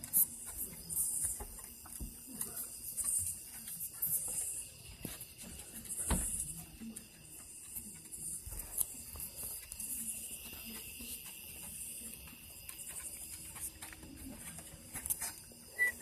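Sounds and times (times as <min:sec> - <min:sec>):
small dog rustling and clicking: 0:00.0 - 0:15.7.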